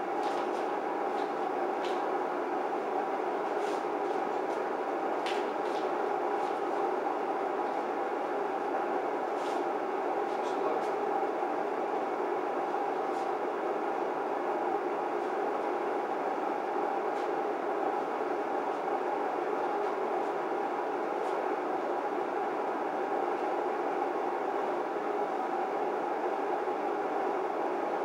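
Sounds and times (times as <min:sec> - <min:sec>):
faint hum: 0:00.0 - 0:28.0.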